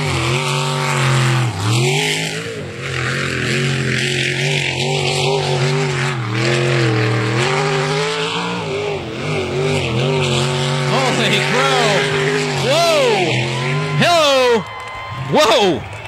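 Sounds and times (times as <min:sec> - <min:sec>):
boat engine running hard: 0:00.0 - 0:14.6.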